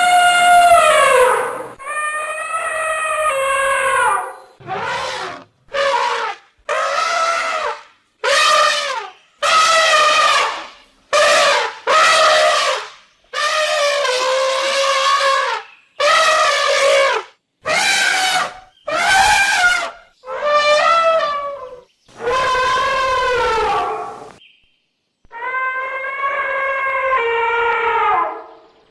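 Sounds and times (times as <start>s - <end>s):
elephant trumpeting: 0.0s - 24.3s.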